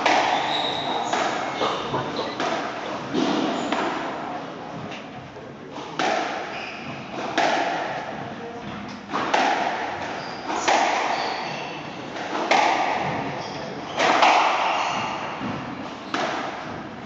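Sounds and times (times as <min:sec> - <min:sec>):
squash ball hitting rackets and walls: 0:00.0 - 0:05.0, 0:05.8 - 0:17.0.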